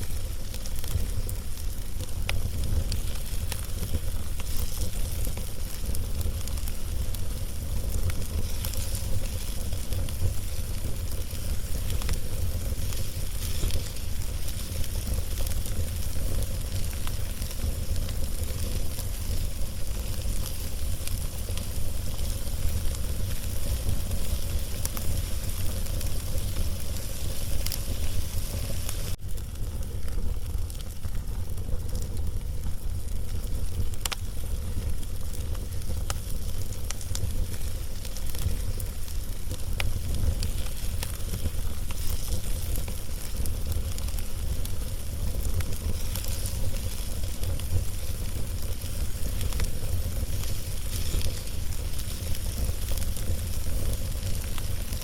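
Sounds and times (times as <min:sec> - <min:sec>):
fire crackles and pops: 0:00.0 - 0:55.0
wood fire hissing and rumbling: 0:00.0 - 0:55.0.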